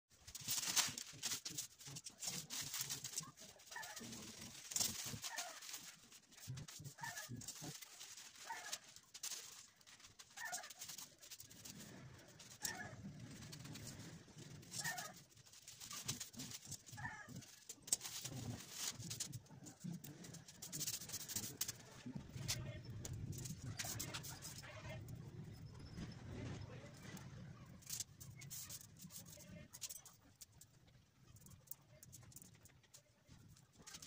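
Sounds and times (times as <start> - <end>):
paper rustling and crinkling: 0.1 - 34.0.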